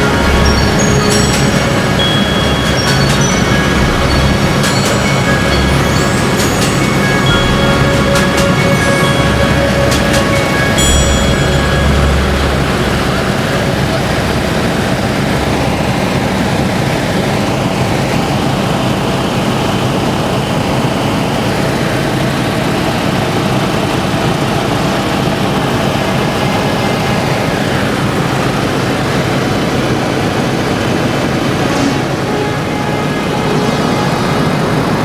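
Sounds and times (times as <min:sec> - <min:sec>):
propeller aeroplane engine drone: 0:00.0 - 0:35.0.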